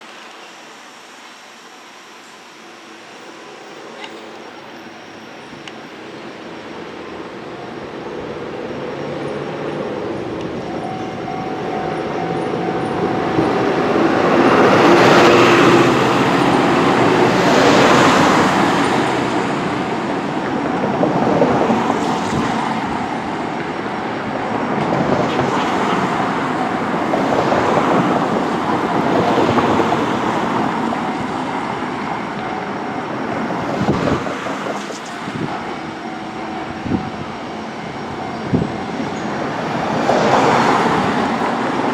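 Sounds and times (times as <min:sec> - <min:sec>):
streetcar wheels running on track: 0:00.0 - 0:41.9.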